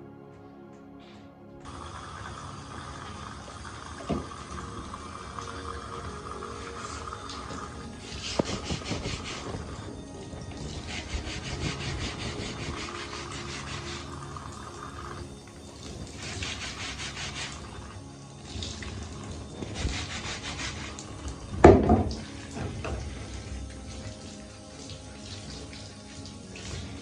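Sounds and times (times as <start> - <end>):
soft background music: 0.0 - 27.0
tap water running into sink: 1.7 - 27.0.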